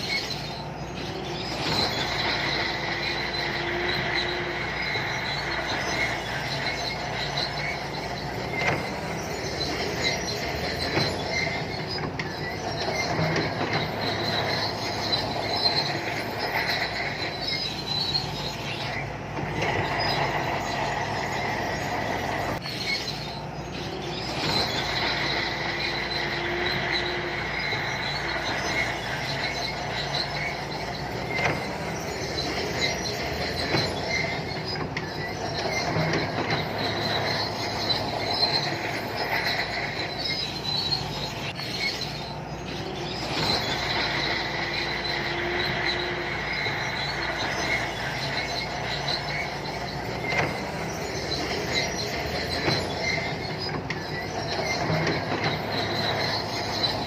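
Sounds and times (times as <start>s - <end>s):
diesel engine running: 0.0s - 57.0s
steel tracks clanking: 0.0s - 57.0s
steel tracks squealing: 0.0s - 57.0s.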